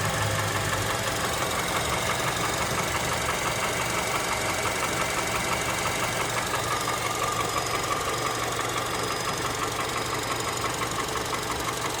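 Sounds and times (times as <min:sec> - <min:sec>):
car engine running: 0:00.0 - 0:12.0
rapid engine knocking: 0:00.0 - 0:12.0.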